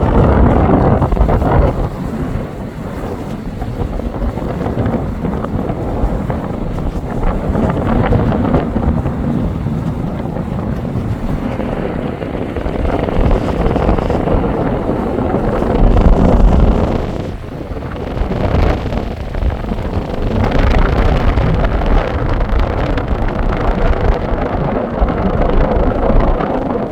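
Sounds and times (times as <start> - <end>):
deep engine rumble: 0.0 - 26.9
wind buffeting microphone: 0.0 - 26.9.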